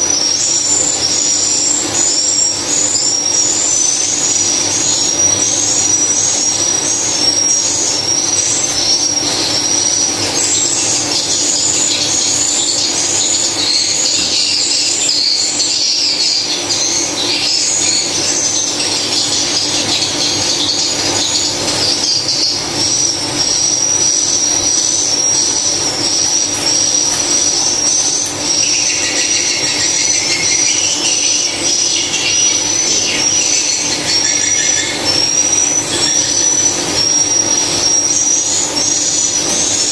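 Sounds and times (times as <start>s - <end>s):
birds chirping high-pitched: 0.0s - 39.9s.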